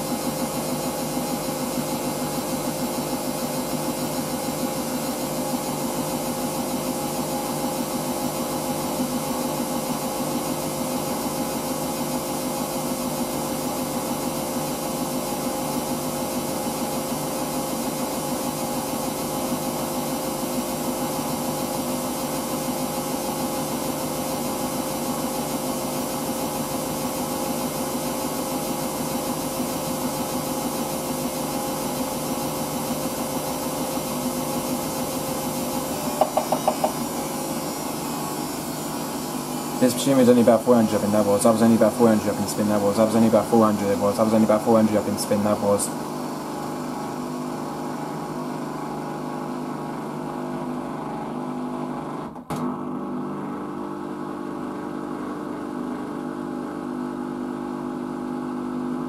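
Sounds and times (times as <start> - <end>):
washing machine spinning: 0.0 - 52.3, 52.9 - 59.0.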